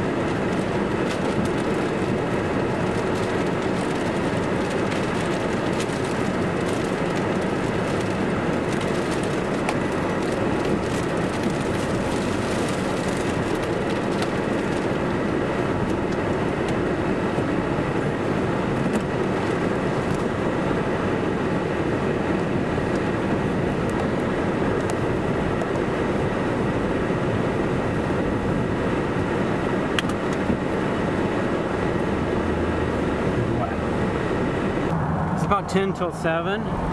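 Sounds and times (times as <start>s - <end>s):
blower and cooling fans rushing: 0.0s - 36.9s.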